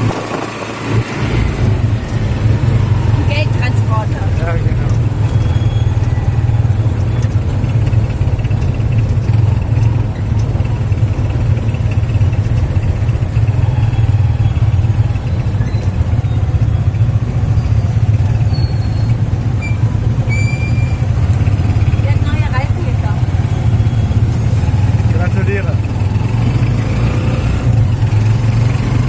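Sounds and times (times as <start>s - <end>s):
motor tricycle engine drone: 0.0s - 29.0s
road and traffic noise: 0.0s - 29.0s.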